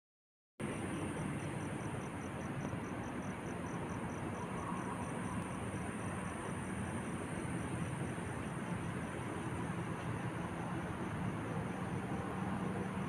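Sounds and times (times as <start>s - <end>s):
distant city traffic hum: 0.6s - 13.0s
faint high-pitched pulsing: 0.6s - 13.0s.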